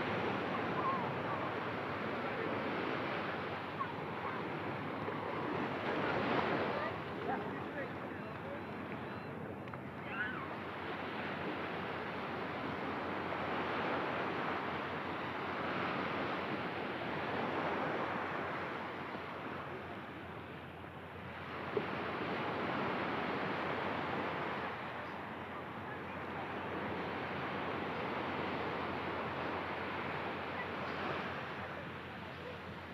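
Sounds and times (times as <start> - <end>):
ocean surf washing onto beach: 0.0 - 32.9.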